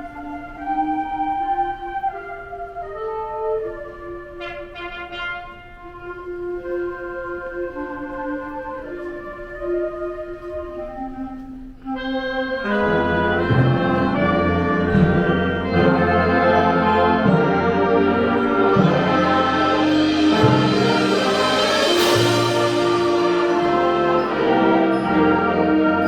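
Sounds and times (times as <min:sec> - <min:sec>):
orchestral music with brass: 0:00.0 - 0:26.0.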